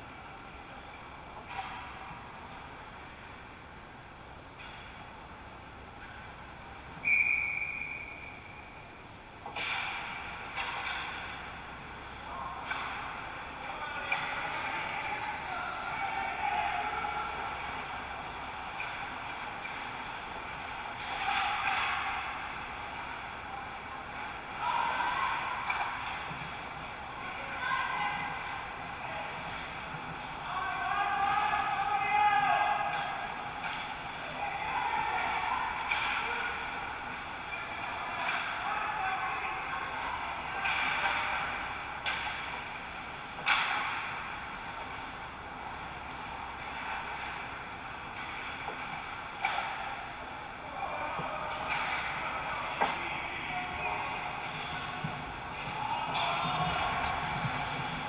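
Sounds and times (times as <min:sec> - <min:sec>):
ice rink background noise: 0:00.0 - 0:58.0.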